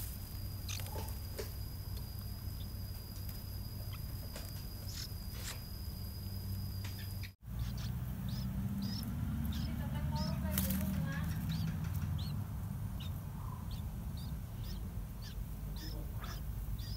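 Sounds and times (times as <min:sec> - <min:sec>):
steady low hum: 0:00.0 - 0:16.9
nestlings squeaky begging calls: 0:00.6 - 0:05.7, 0:06.9 - 0:16.9.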